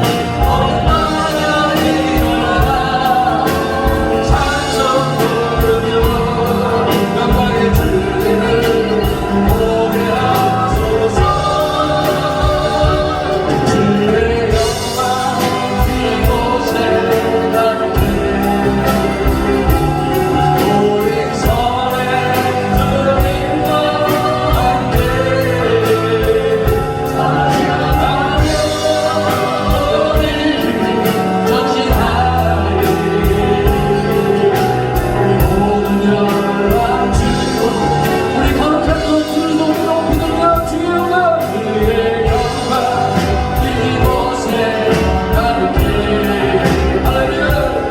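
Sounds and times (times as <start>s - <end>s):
band accompaniment with beat: 0.0s - 47.9s
voices singing worship song: 0.0s - 47.9s.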